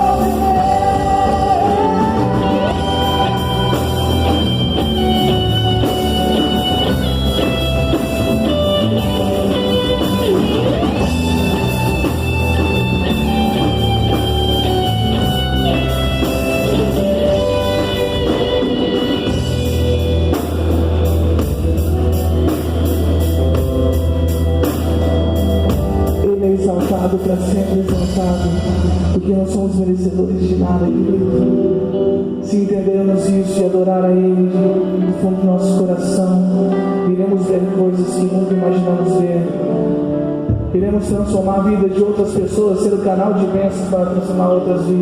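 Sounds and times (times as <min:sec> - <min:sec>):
band playing instrumental: 0:00.0 - 0:45.0.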